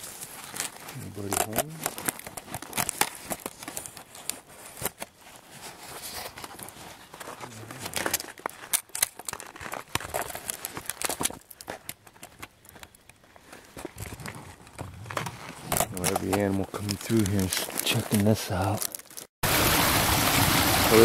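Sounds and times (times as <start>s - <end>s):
dry reeds rustling and crackling: 0.0s - 19.3s.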